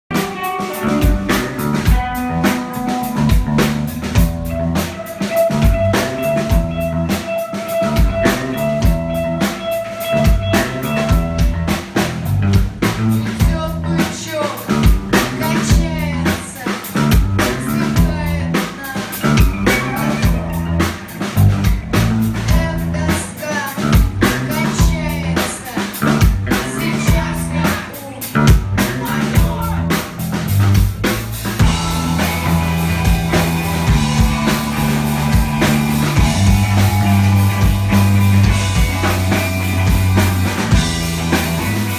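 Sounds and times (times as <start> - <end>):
band music: 0.0 - 41.9
drum kit beat: 0.1 - 41.9.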